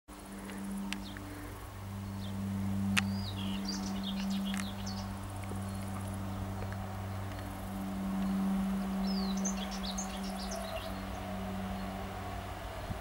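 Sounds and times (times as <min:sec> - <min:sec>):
steady low hum: 0:00.1 - 0:13.0
small birds chirping: 0:00.2 - 0:13.0.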